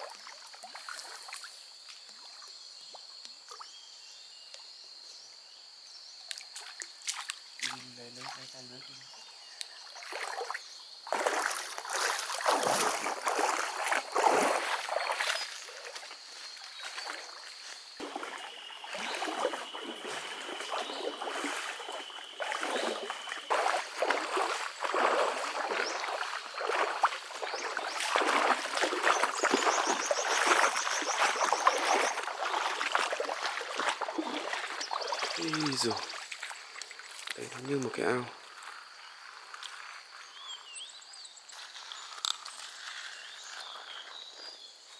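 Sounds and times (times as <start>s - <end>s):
water splashing and sloshing: 0.0s - 3.7s, 6.3s - 40.4s.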